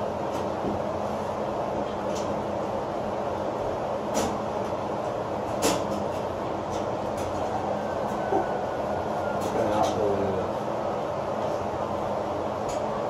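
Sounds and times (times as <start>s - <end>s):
mechanical droning hum: 0.0s - 13.0s.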